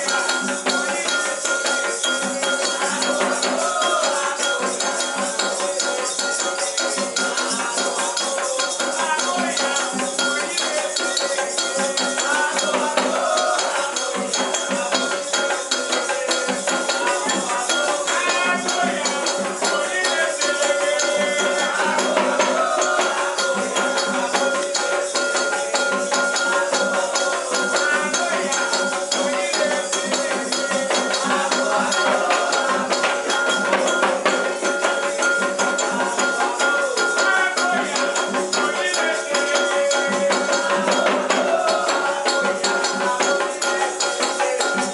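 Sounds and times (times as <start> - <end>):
percussion: 0.0 - 44.9
rattles shaken in a steady rhythm: 0.0 - 44.9
voices singing a chant: 0.0 - 44.9.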